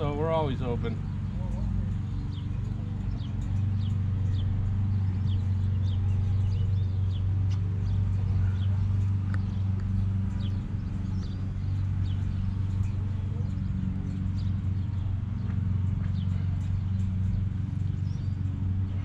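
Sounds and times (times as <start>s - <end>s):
engine humming steadily: 0.0s - 19.0s
small birds chirping: 0.0s - 19.0s.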